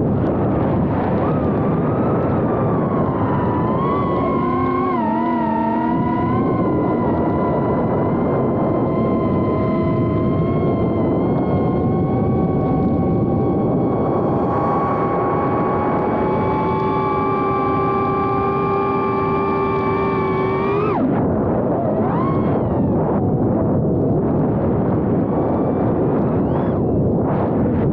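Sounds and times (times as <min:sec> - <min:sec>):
drone motors whining: 0:00.0 - 0:27.9
propeller and wind rush: 0:00.0 - 0:27.9.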